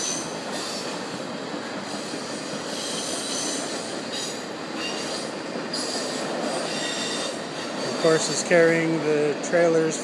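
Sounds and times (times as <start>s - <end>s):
train wheels on rail: 0.0s - 10.0s.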